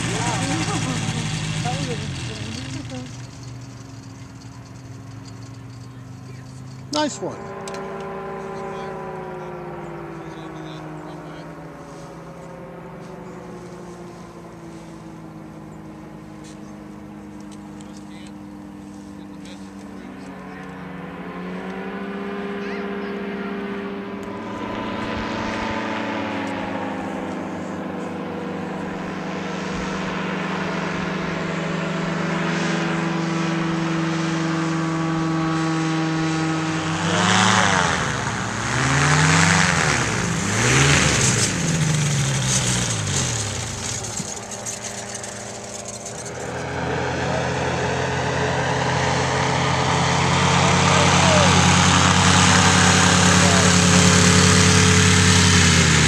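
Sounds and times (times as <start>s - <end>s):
powered parachute engines droning: 0.0s - 56.0s.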